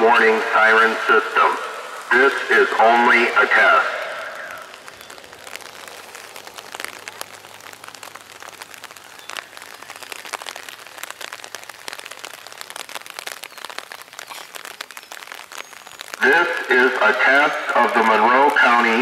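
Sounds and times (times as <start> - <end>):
rain pattering on umbrella: 0.0 - 19.0.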